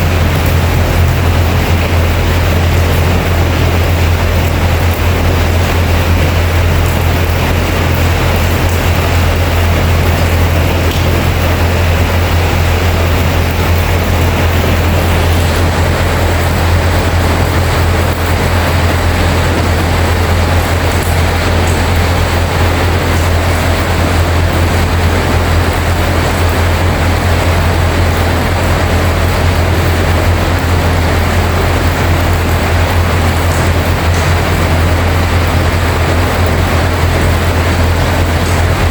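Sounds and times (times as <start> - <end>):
constant low hum: 0.0 - 38.9
heavy rain hissing: 0.0 - 38.9.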